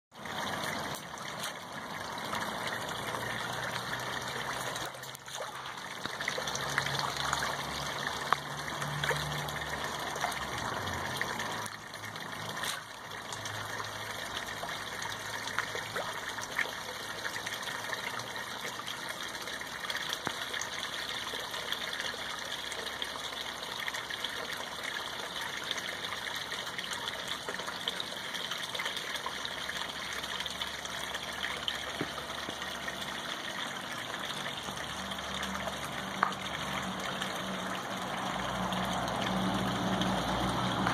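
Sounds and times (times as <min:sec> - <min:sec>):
water trickling and splashing: 0:00.1 - 0:40.9.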